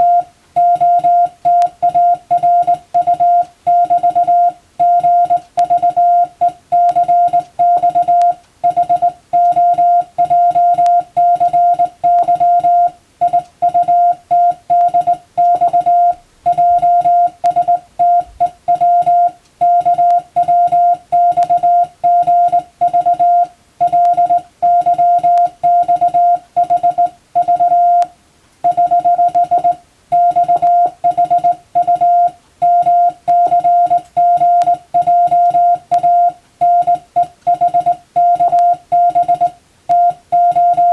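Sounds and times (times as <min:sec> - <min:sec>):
morse code tone: 0:00.0 - 0:40.9.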